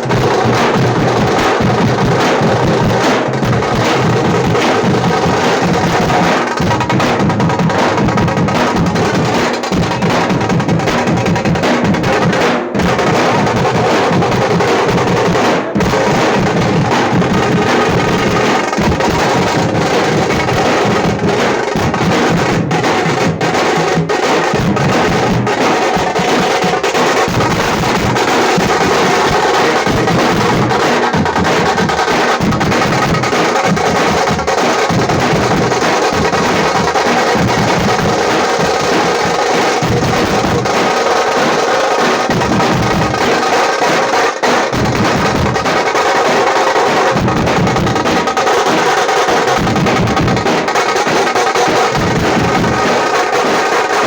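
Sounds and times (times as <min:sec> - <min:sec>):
fast frame drum beating: 0:00.0 - 0:54.0.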